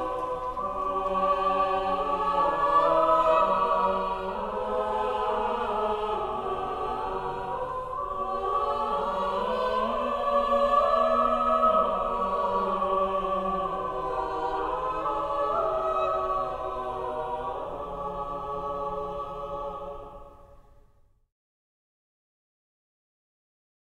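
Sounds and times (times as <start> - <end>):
choir singing sustained voices: 0.0 - 20.9.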